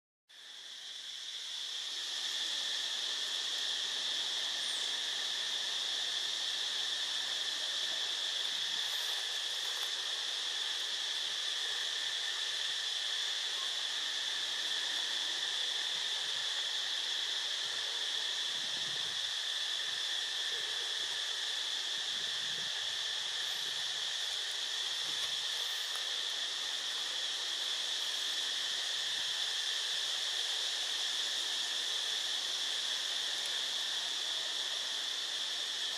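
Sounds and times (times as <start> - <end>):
insect chorus drone: 0.3 - 35.9.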